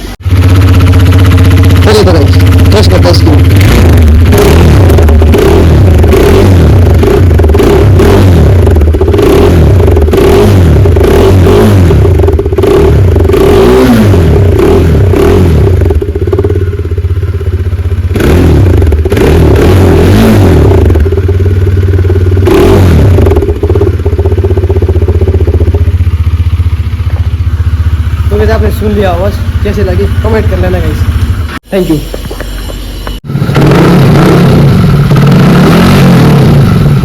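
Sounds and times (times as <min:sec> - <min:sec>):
motorcycle engine idling: 0:00.0 - 0:35.4, 0:36.3 - 0:37.0
motorcycle engine revving: 0:00.0 - 0:37.0.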